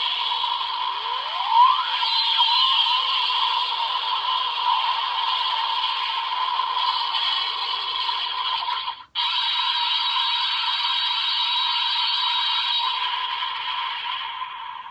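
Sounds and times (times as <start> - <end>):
hissing toy sound effect: 0.0 - 14.9.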